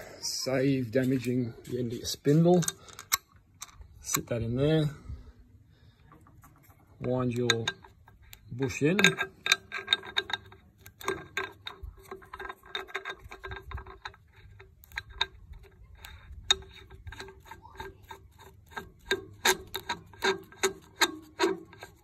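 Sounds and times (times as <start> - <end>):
metal bush screwed in clicking: 1.0 - 4.5, 6.2 - 22.0.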